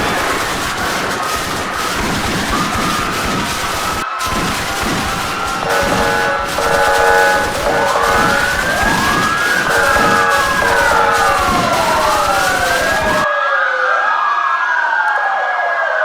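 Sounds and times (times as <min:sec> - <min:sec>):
steady tones: 0:00.0 - 0:13.2
dense noisy background: 0:00.0 - 0:13.3
emergency sirens wailing: 0:00.0 - 0:16.0.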